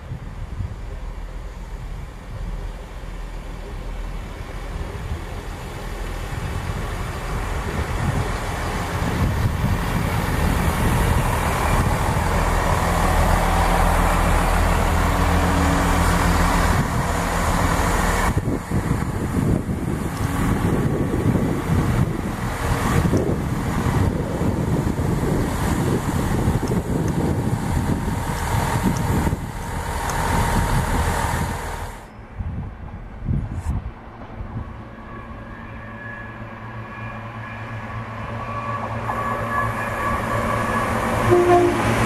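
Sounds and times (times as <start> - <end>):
diesel train engines: 0.0 - 42.0
train wheels on rails: 0.0 - 42.0.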